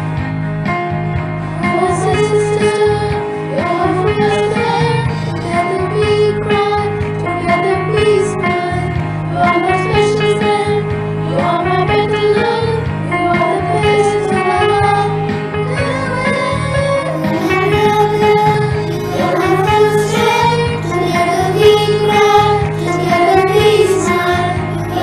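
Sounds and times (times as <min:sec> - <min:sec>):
instrumental accompaniment: 0:00.0 - 0:25.0
children singing: 0:01.6 - 0:25.0.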